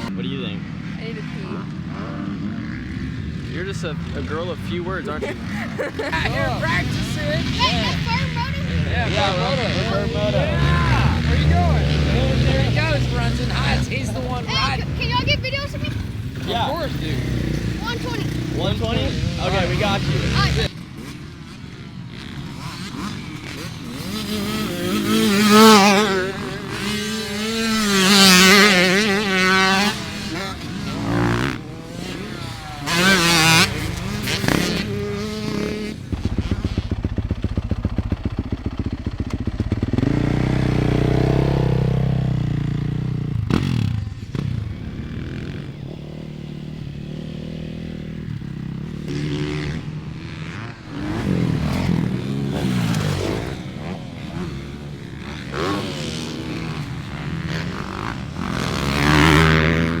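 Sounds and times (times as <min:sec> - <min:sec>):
dirt bike engines revving: 0:00.0 - 1:00.0.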